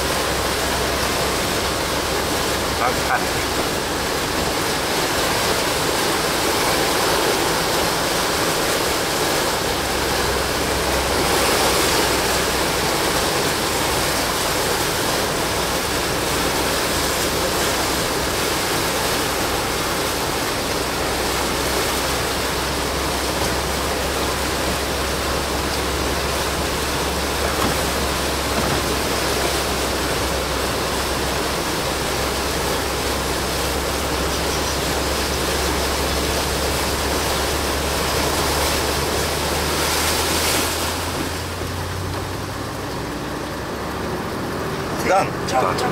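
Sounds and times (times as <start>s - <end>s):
floodwater rushing: 0.0s - 45.9s
low engine hum: 0.0s - 45.9s.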